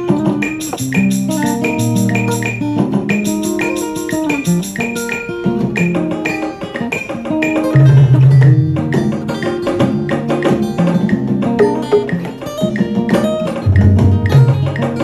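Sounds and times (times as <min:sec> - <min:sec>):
plucked guitar and bass: 0:00.0 - 0:15.0
steady drum beat: 0:00.0 - 0:15.0.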